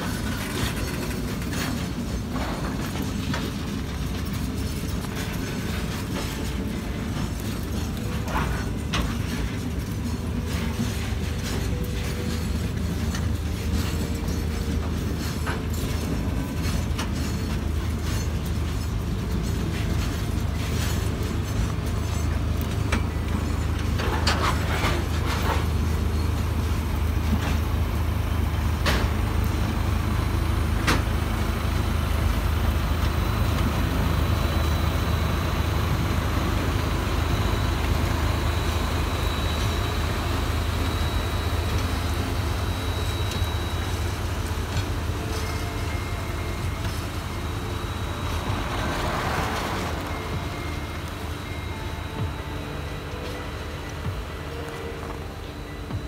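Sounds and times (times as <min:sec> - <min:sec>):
diesel locomotive drone: 0:00.0 - 0:56.0
freight train wagons rolling: 0:00.0 - 0:56.0
thin high whine: 0:00.0 - 0:56.0
wheel clacks over rails: 0:00.0 - 0:56.0.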